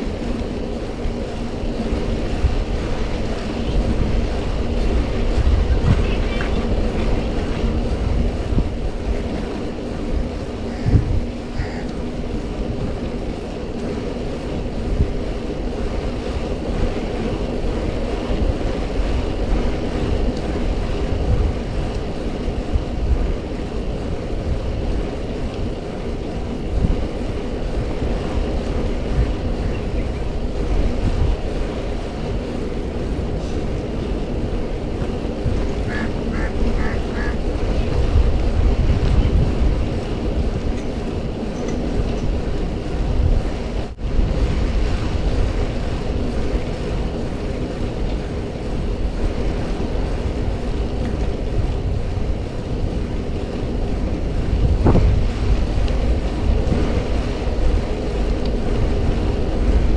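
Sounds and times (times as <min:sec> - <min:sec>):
low rolling hum: 0:00.0 - 0:59.9
wind buffeting microphone: 0:00.0 - 0:59.9.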